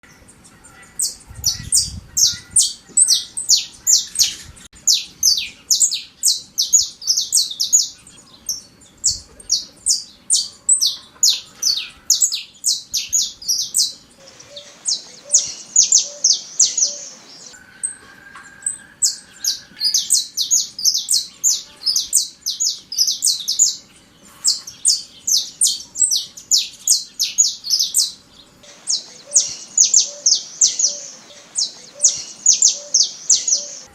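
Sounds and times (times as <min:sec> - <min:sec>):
finch singing: 0:00.1 - 0:18.0, 0:18.6 - 0:33.9.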